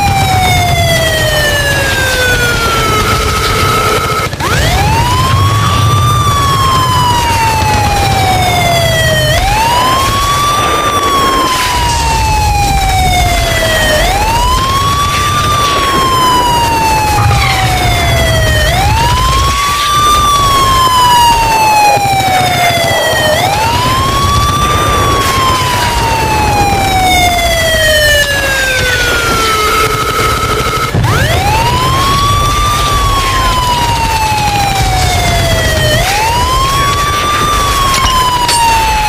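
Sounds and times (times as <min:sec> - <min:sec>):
emergency alarm siren: 0:00.0 - 0:39.0
low rumbling noise: 0:00.0 - 0:39.0.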